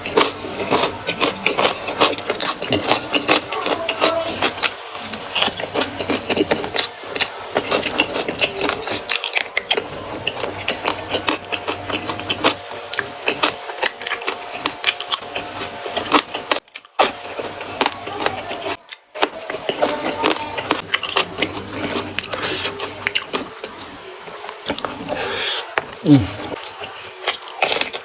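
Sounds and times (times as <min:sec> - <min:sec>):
crunchy chewing of vegetables: 0:00.0 - 0:28.0.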